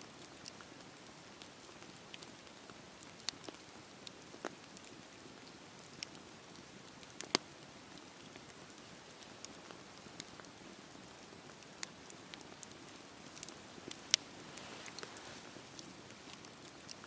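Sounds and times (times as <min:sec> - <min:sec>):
fire crackles and pops: 0:00.0 - 0:17.0
campfire hissing: 0:00.2 - 0:17.0.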